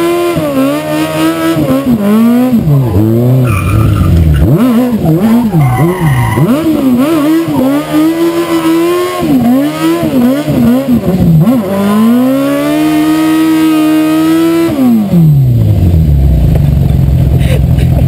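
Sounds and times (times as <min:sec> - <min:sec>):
engine revving hard: 0:00.0 - 0:15.4.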